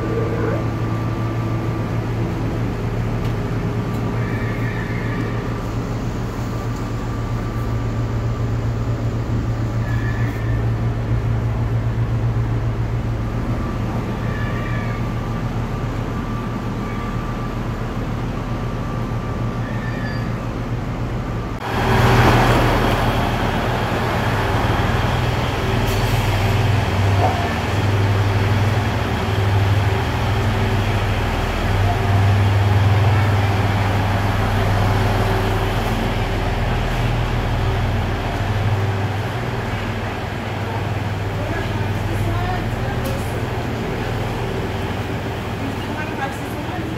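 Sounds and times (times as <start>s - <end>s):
station platform noise: 0.0s - 46.9s
train running rumble: 0.0s - 46.9s.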